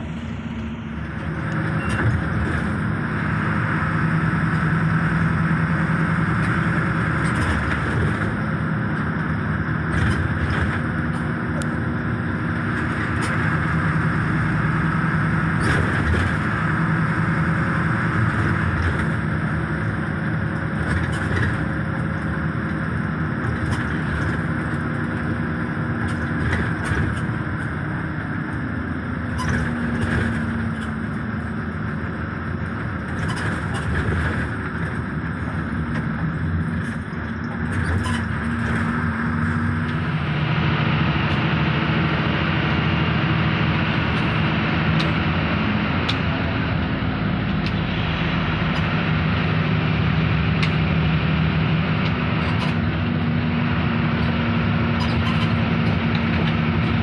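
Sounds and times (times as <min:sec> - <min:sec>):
bus engine hum and road noise: 0:00.0 - 0:57.0.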